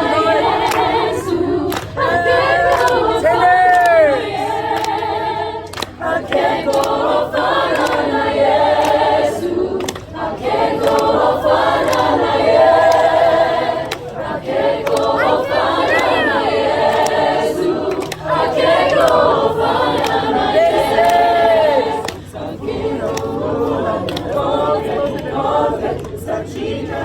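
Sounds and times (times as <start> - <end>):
choir singing unaccompanied: 0.0 - 27.0.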